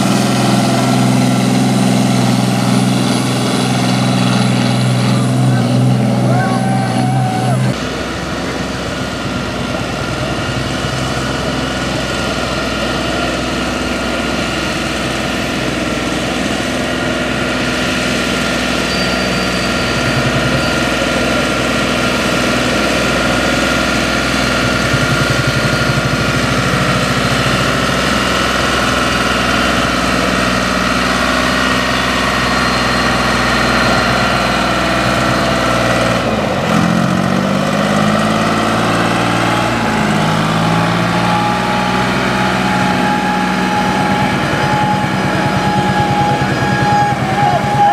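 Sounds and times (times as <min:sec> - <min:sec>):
tractor engine under load: 0:00.0 - 0:47.9.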